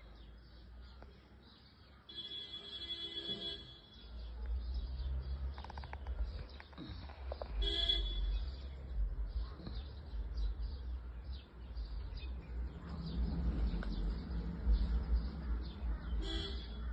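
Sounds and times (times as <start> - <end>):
small birds chirping: 0.0 - 2.5, 3.7 - 16.9.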